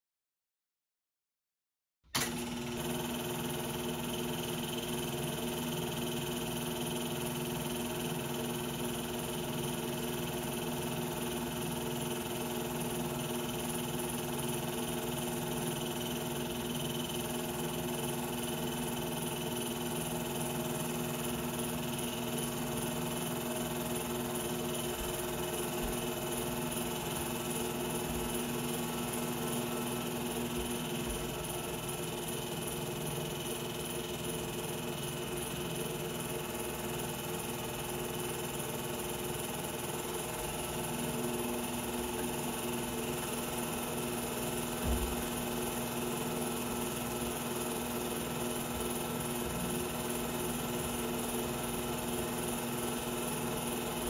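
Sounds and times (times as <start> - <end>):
film projector humming and whirring: 2.2 - 54.0.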